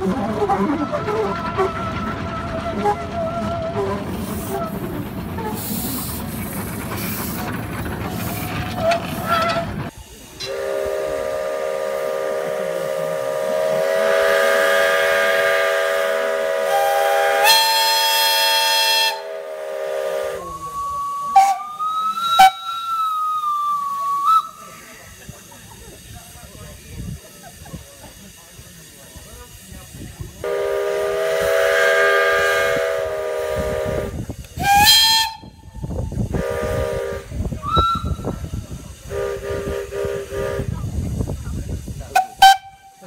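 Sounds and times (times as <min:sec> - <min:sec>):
steam locomotive whistles: 0:00.0 - 0:07.5, 0:08.1 - 0:25.8, 0:27.5 - 0:43.0.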